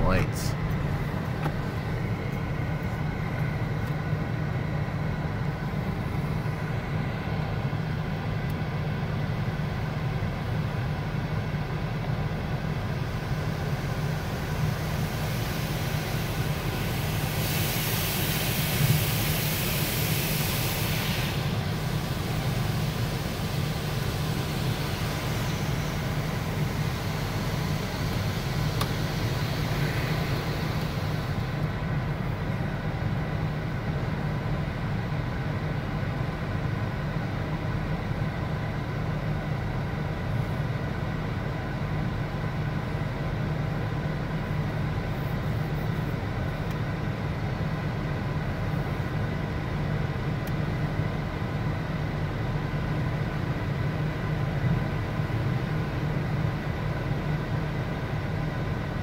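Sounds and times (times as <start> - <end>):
car wash low hum: 0.0 - 59.0.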